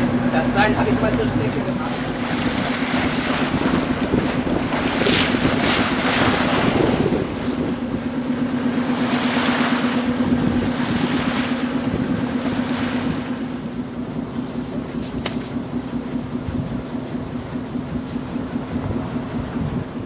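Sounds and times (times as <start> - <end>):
steady hum: 0.0 - 20.0
water rushing past hull: 0.0 - 20.0
wind buffeting microphone: 0.0 - 20.0.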